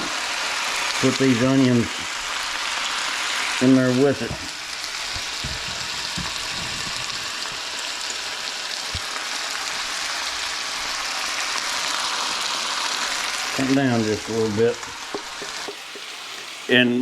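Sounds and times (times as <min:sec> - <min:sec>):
potatoes sizzling in a skillet: 0:00.0 - 0:17.0.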